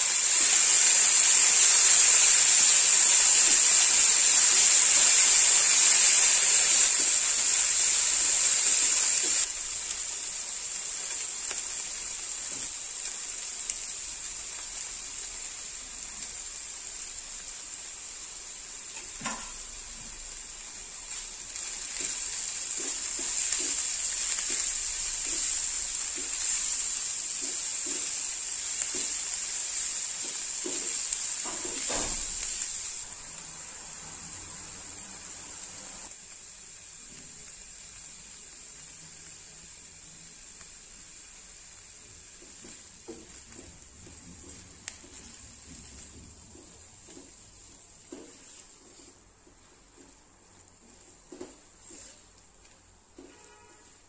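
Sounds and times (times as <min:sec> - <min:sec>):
food sizzling in hot oil: 0:00.0 - 0:49.1.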